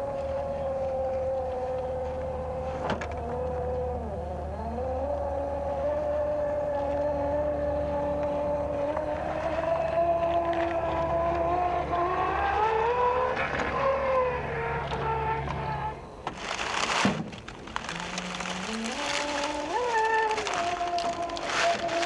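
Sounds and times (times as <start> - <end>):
electric motor and gearbox whining: 0.0 - 22.0.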